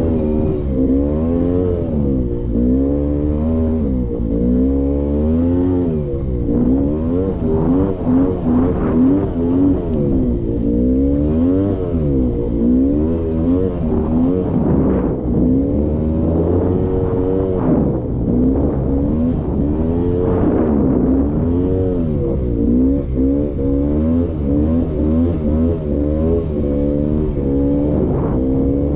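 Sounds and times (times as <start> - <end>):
two-stroke engine revving: 0.0 - 28.9.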